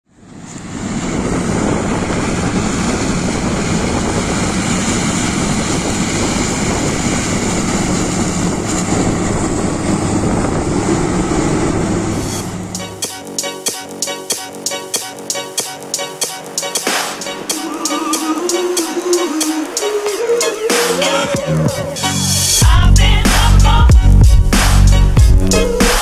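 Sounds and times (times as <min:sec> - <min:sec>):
combine harvester droning: 0:00.0 - 0:26.0.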